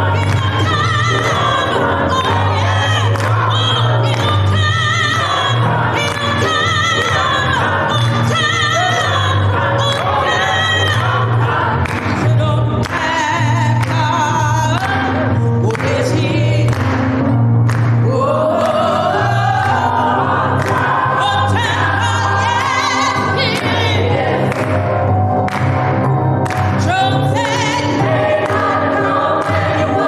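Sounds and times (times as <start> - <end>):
choir singing gospel: 0.0 - 30.0
hands clapping: 0.1 - 21.7, 22.5 - 30.0.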